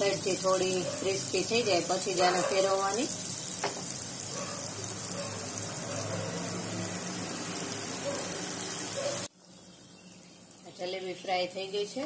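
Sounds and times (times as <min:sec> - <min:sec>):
batter sizzling in hot fat: 0:00.0 - 0:12.0.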